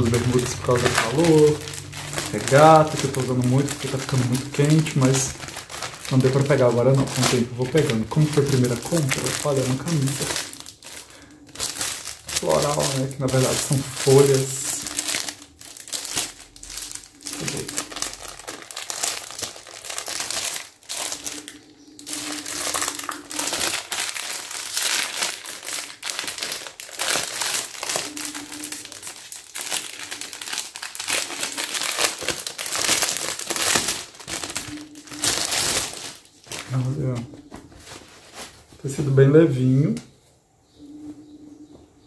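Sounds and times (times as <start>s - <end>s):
plastic packaging crinkling: 0.0s - 39.2s.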